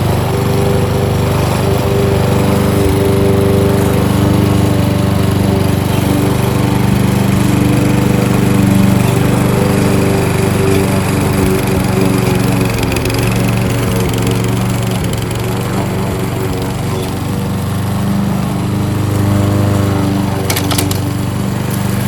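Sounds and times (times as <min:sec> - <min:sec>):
lawnmower engine mowing grass: 0:00.0 - 0:22.0.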